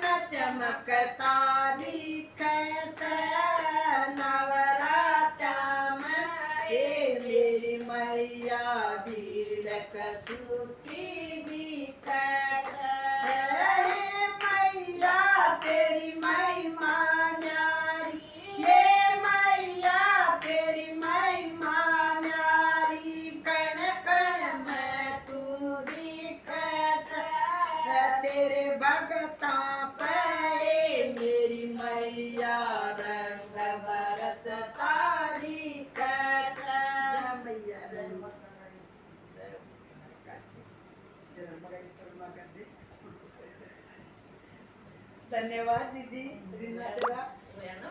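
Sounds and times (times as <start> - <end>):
women singing devotional song: 0.0 - 38.4.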